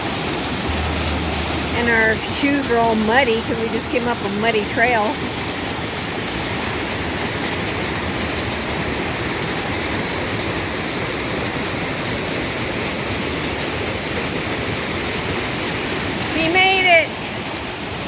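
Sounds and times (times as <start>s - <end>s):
fast-flowing creek water: 0.0s - 18.0s.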